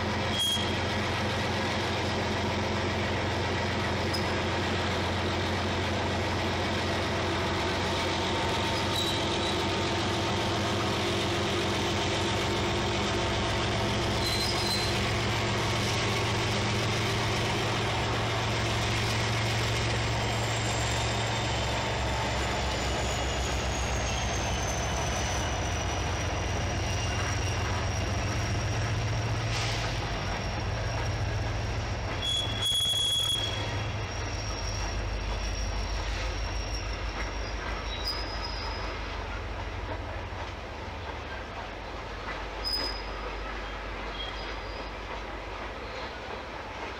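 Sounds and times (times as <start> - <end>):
diesel locomotive engine drone: 0.0 - 46.9
rumble of rail cars: 0.0 - 46.9
high wheel squeal: 0.2 - 1.4, 5.2 - 39.3, 42.6 - 45.0.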